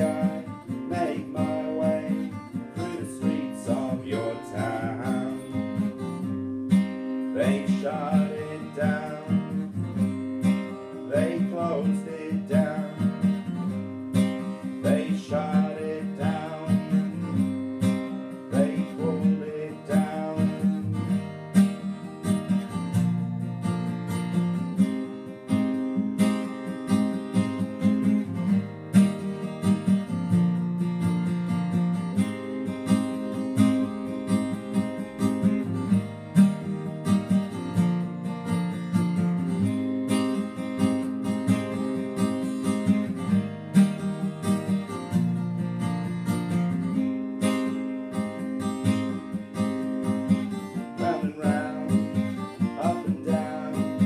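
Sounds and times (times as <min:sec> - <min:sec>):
acoustic guitar strumming chords: 0:00.0 - 0:54.0.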